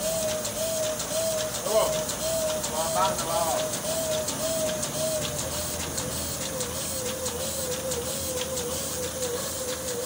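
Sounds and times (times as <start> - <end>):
printing press hiss and hum: 0.0 - 10.0.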